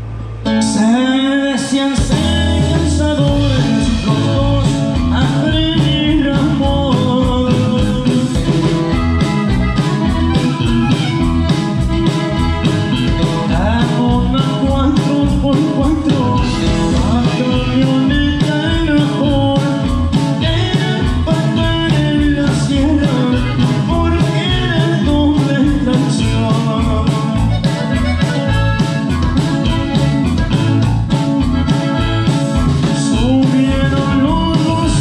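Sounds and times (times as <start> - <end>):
band playing live: 0.0 - 35.0
drums with a steady beat: 1.9 - 35.0
button accordion: 2.0 - 35.0.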